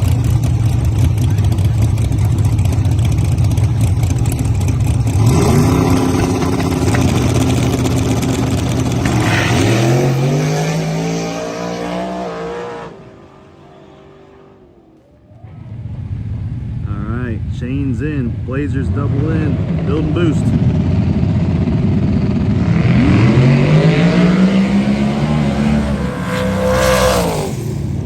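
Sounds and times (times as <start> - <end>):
drag racing engines at full throttle: 0.0 - 28.0.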